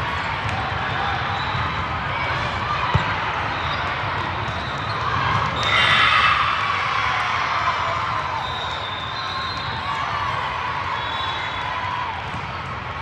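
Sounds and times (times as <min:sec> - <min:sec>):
crowd cheering and shouting: 0:00.0 - 0:13.0
crowd noise in sports hall: 0:00.0 - 0:13.0.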